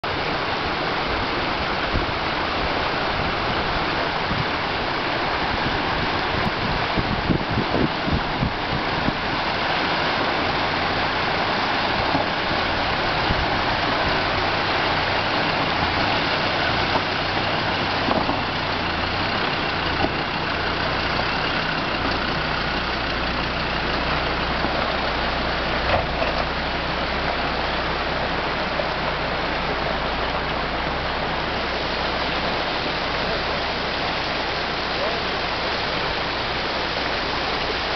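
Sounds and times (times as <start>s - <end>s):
engine running at low revs: 0.0s - 37.9s
flowing stream water: 0.0s - 37.9s.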